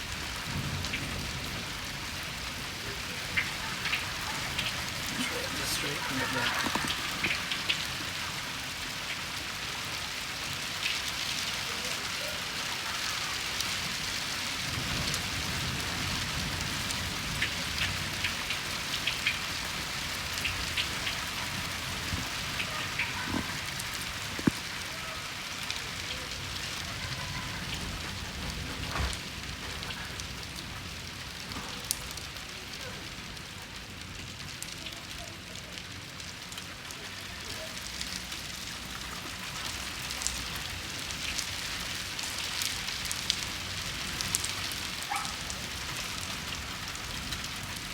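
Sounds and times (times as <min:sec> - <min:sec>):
raindrops ticking on a surface: 0:00.0 - 0:47.9
steady rain hissing: 0:00.0 - 0:47.9.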